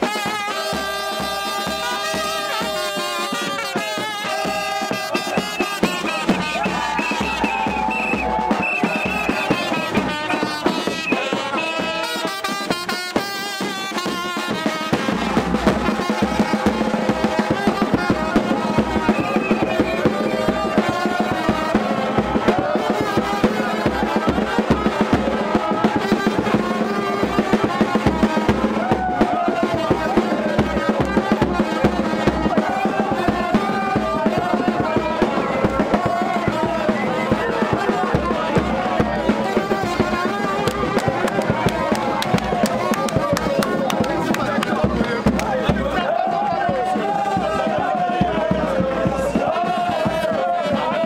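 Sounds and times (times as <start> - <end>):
music with drums and beat: 0.0 - 51.0.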